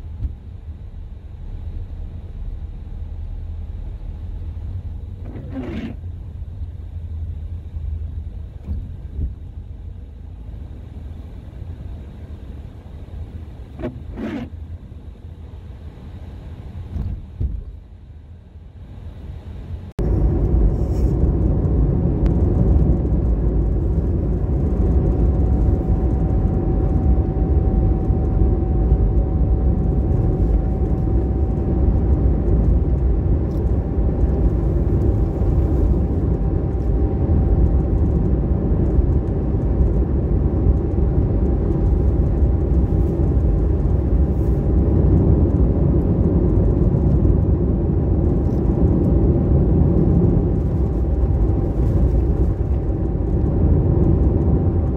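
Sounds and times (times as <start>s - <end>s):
car road and engine rumble: 0.0s - 54.9s
faint steady whine: 0.0s - 54.9s.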